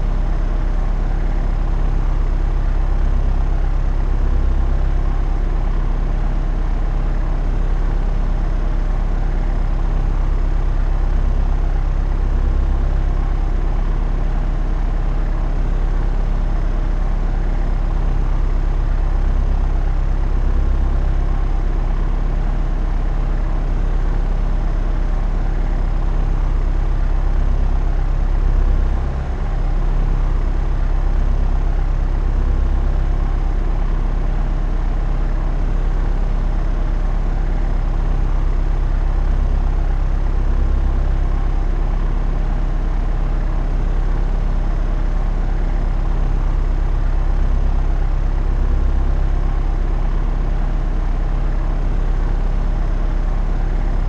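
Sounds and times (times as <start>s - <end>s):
propeller aircraft drone: 0.0s - 54.0s.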